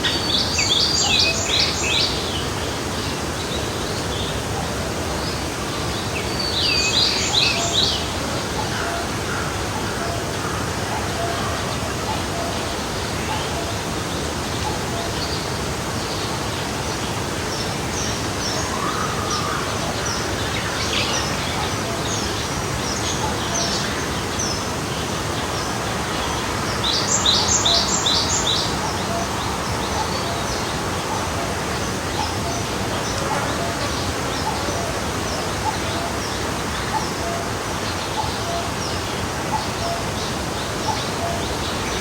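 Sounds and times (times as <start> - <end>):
songbirds chirping: 0.0 - 42.0
stream flowing: 0.0 - 42.0.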